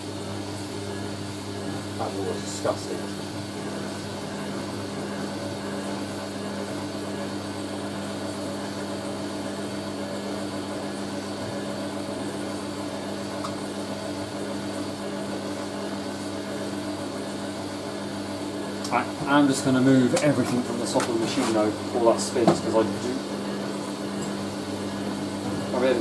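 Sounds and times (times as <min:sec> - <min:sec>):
washing machine tumbling: 0:00.0 - 0:26.0.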